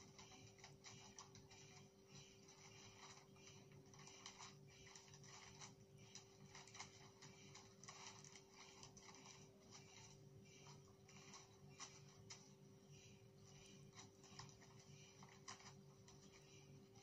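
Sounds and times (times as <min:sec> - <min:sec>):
steady low hum: 0:00.0 - 0:17.0
wrapping paper rustling: 0:00.0 - 0:17.0.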